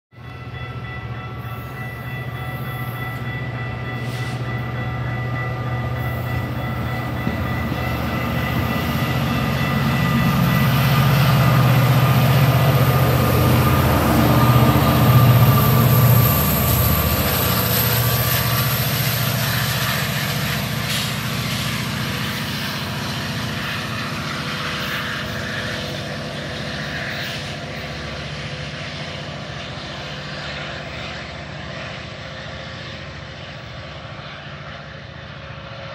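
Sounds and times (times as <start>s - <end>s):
diesel locomotive engine: 0.1s - 35.9s
train coaches rumbling by: 0.1s - 35.9s.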